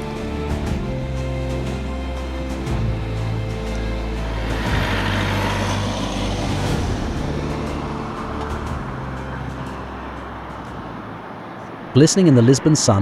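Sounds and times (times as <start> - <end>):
jet airliner engines rushing: 0.0 - 13.0.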